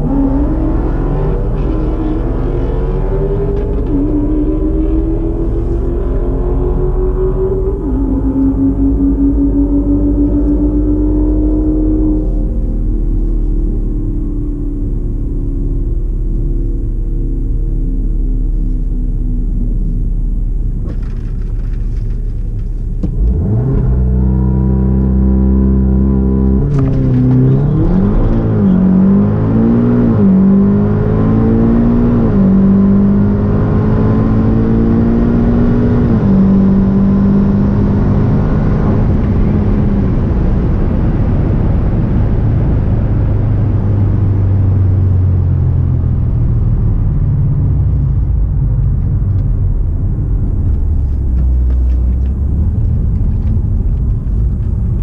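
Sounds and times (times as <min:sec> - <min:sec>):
car engine revving: 0:00.0 - 0:55.0
road rumble: 0:00.0 - 0:55.0.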